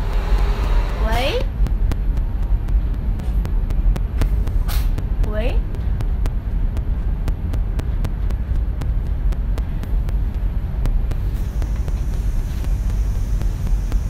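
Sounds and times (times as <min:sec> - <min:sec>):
train rumble inside carriage: 0:00.0 - 0:14.0.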